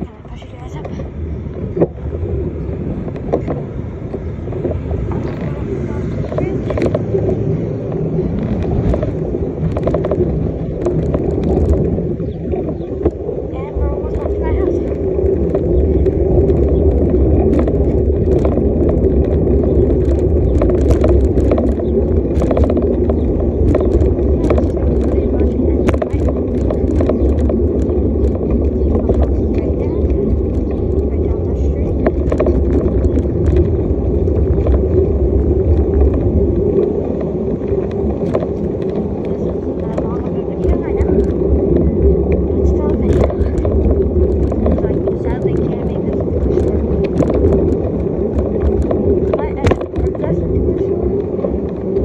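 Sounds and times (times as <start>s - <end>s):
bicycle rolling on road: 0.0s - 52.0s
wind buffeting microphone: 0.0s - 52.0s.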